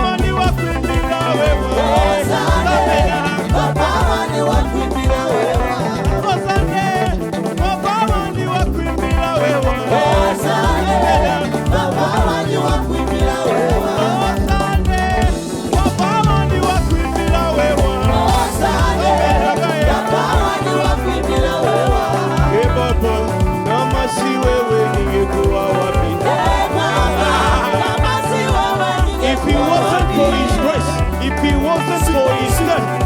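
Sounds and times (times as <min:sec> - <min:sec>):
gospel band playing upbeat groove: 0:00.0 - 0:33.0
steady bass pulse: 0:00.0 - 0:33.0
wavering melodic lead line: 0:00.0 - 0:33.0.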